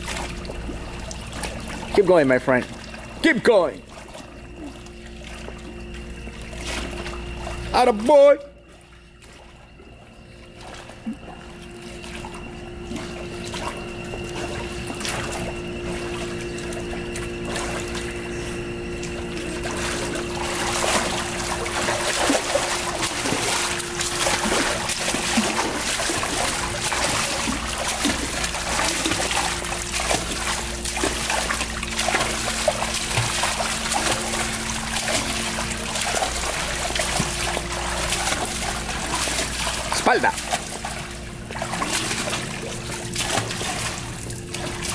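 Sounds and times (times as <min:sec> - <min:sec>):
swimmer splashing water: 0:00.0 - 0:44.9.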